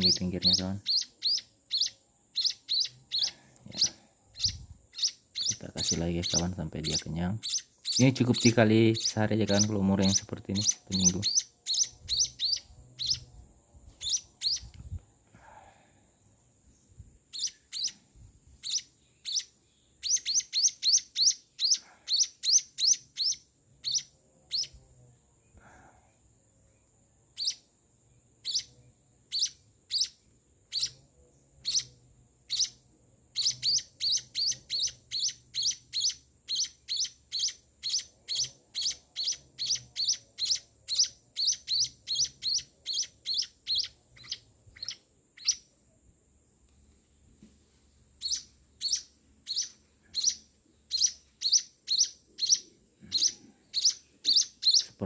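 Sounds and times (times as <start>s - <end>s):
nestling begging chirps: 0.0s - 15.0s, 16.2s - 24.9s, 26.7s - 45.9s, 48.0s - 55.0s.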